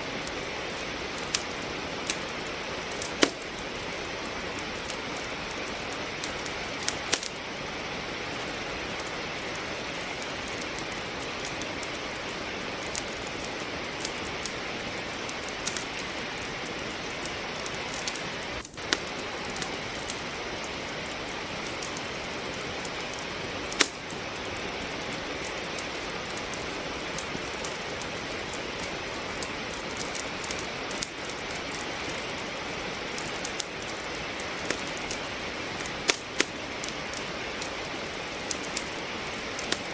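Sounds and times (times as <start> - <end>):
firewood crackling and popping: 0.0 - 39.9
steady rain falling: 0.0 - 39.9.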